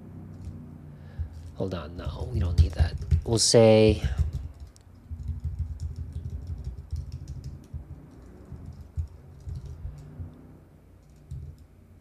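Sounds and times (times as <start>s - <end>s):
computer keyboard typing: 1.2s - 11.7s.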